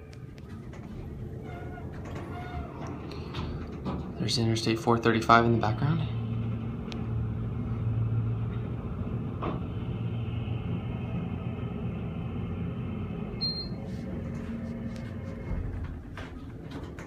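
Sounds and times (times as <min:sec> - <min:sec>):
elevator hydraulic hum: 0:00.0 - 0:17.0.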